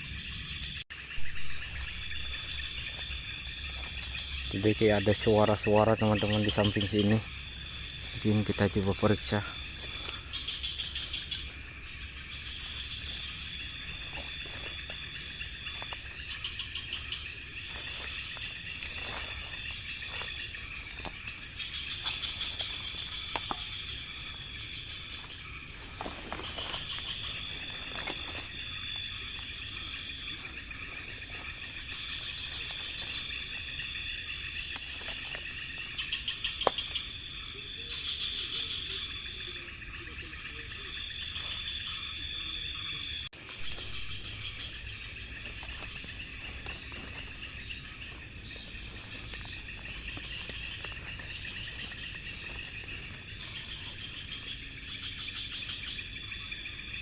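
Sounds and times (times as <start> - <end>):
night insects chorus: 0.0 - 57.0.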